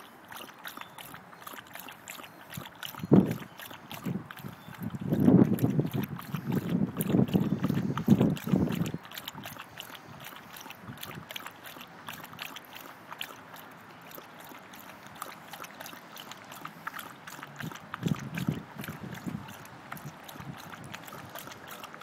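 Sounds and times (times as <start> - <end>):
dog lapping water: 0.0 - 22.0.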